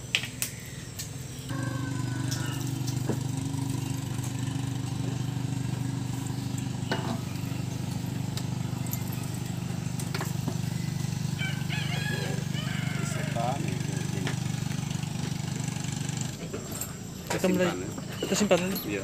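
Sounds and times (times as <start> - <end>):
boat engine running: 1.4 - 19.0.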